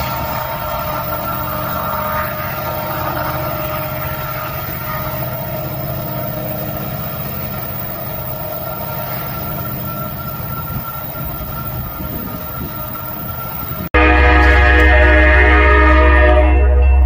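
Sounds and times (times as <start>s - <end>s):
diesel locomotive engine throb: 0.0s - 17.0s.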